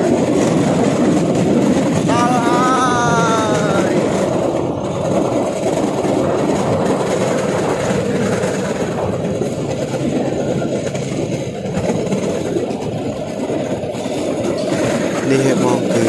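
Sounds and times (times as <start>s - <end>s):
train wheels rattling on rails: 0.0s - 16.0s.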